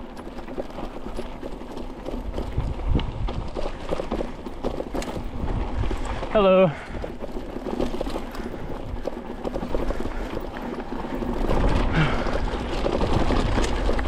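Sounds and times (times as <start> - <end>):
bike clicking and rattling: 0.0 - 14.0
tyres crunching over dirt: 0.0 - 14.0.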